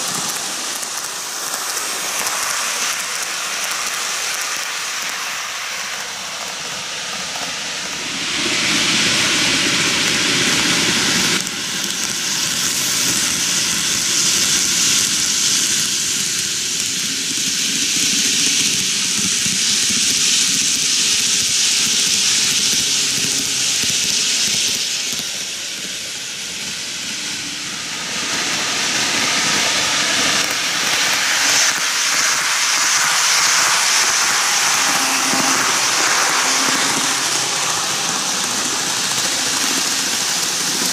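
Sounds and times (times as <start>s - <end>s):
model train running on track: 0.0s - 40.9s.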